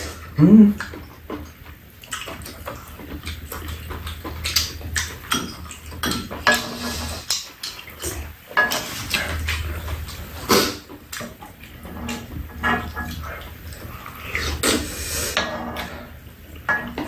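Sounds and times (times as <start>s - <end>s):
people eating mouth sounds: 0.0s - 16.1s.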